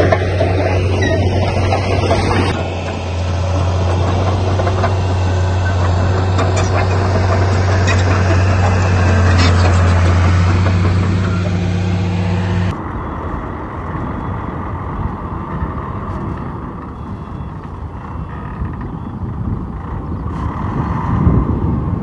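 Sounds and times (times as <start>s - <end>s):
loud steady engine hum: 0.0s - 22.0s
rough noisy engine: 0.0s - 22.0s.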